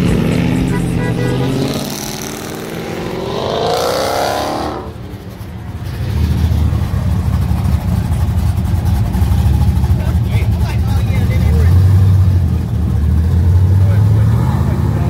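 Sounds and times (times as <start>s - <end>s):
car accelerating: 0.0s - 15.0s
truck exhaust rumbling: 0.0s - 15.0s.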